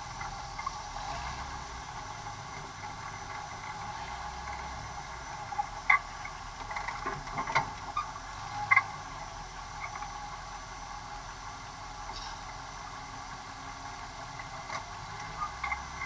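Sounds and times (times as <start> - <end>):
buggy engine running: 0.0 - 16.0.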